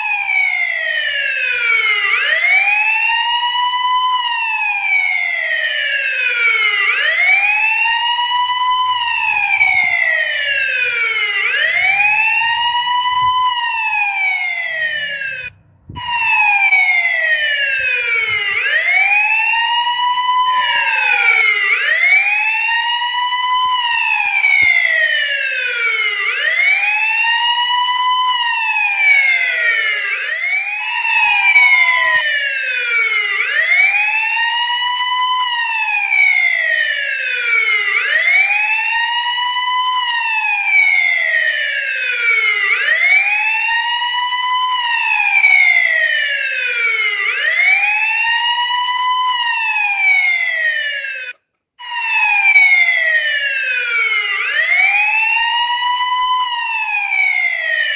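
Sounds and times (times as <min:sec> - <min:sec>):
police siren wailing: 0:00.0 - 0:57.9.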